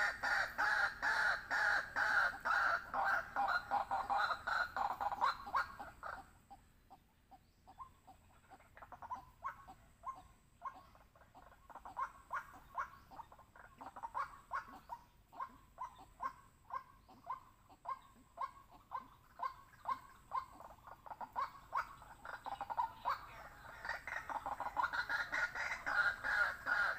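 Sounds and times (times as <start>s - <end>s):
waterhen croaking: 0.0s - 7.1s, 7.7s - 26.9s.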